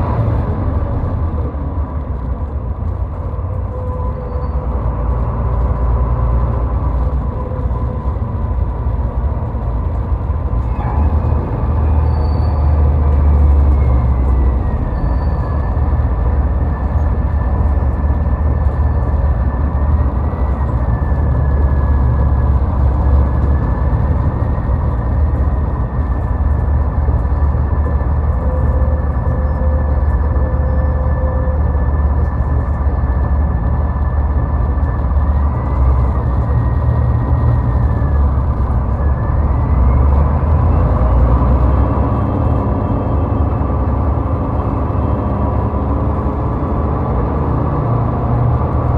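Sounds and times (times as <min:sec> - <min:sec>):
vehicle road noise rumble: 0:00.0 - 0:48.9.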